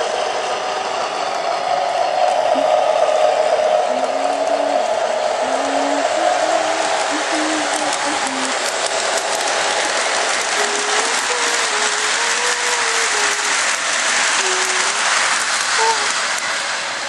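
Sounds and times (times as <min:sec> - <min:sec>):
model train rattling on track: 0:00.0 - 0:17.0.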